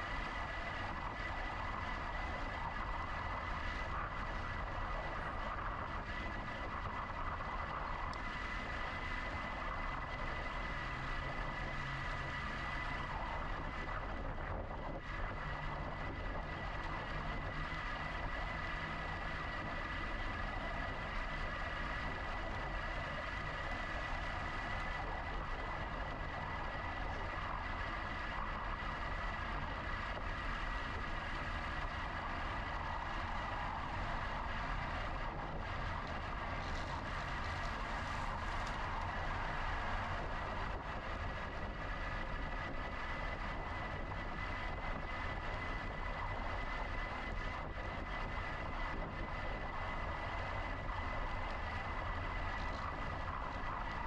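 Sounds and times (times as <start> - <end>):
electric bike motor whine: 0.0 - 54.0
wind and road rumble: 0.0 - 54.0.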